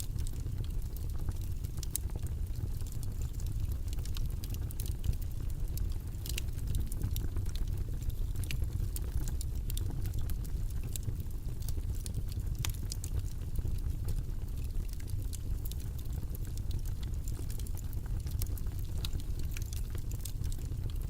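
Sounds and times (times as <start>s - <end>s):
low white noise: 0.0s - 21.0s.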